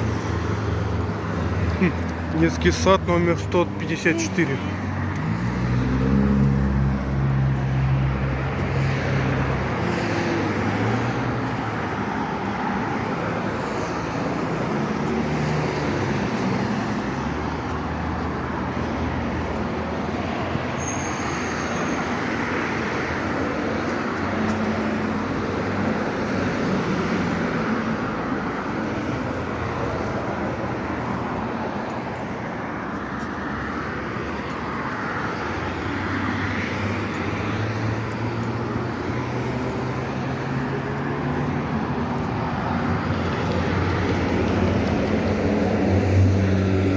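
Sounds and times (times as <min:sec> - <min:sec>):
low hum of vehicle engines: 0:00.0 - 0:46.9
road traffic noise: 0:00.0 - 0:46.9.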